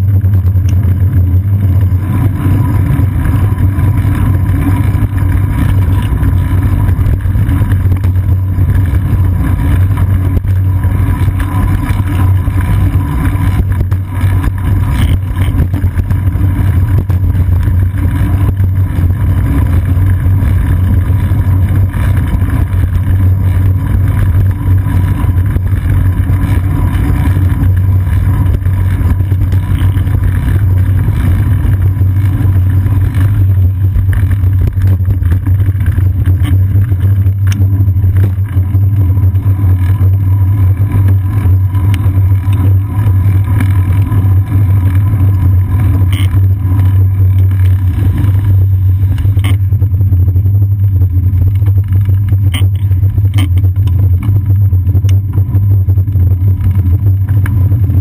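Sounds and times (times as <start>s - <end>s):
road vibration rumble: 0.0s - 58.0s
street traffic: 0.0s - 58.0s
wind on the camera: 0.0s - 58.0s.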